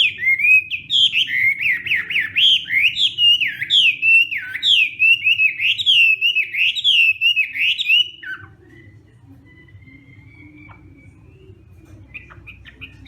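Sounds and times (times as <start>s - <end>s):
bird whistling repeated notes: 0.0s - 13.0s.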